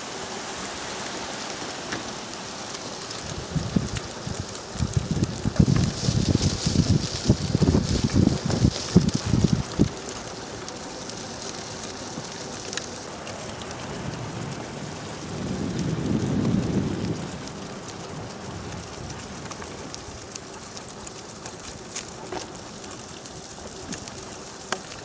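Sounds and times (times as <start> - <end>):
wheels hissing on wet road: 0.0 - 25.0
small ticks: 1.5 - 25.0.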